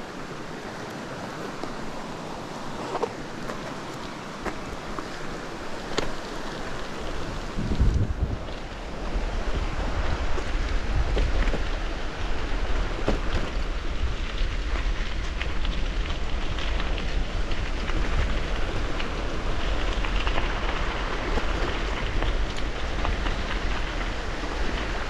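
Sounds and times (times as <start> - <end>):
bicycle tyres crunching on gravel: 0.0 - 25.0
wind on microphone: 0.0 - 25.0.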